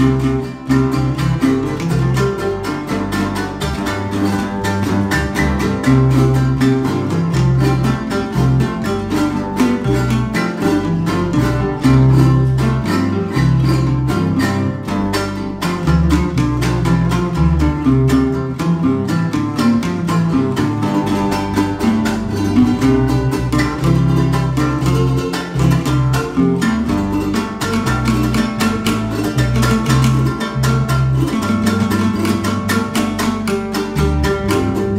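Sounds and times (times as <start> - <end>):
electric bass line: 0.0 - 34.9
guitars strummed in quick rhythm: 0.0 - 34.9.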